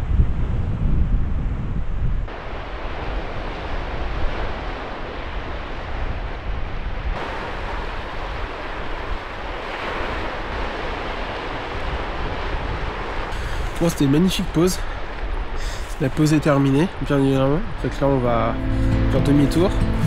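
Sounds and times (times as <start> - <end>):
wind rumble on microphone: 0.0 - 20.0
waves washing over rocks: 2.3 - 18.5.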